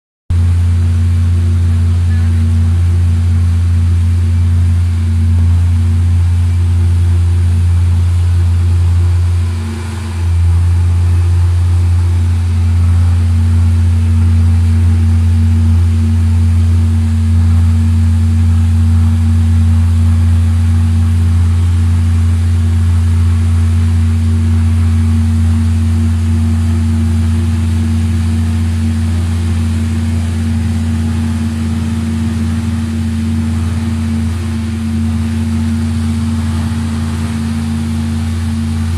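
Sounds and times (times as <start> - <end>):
boiler gas burner humming: 0.3 - 38.9.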